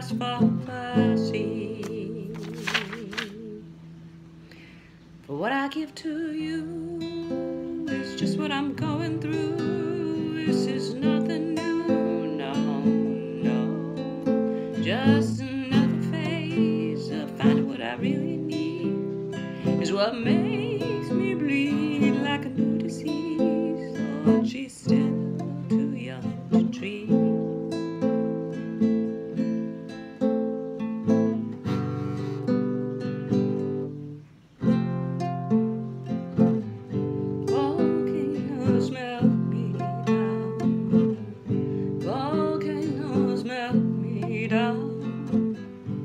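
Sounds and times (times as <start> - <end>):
woman singing: 0.0 - 4.0, 5.2 - 29.3, 35.8 - 46.0
acoustic guitar strummed: 0.0 - 4.5, 6.2 - 46.0.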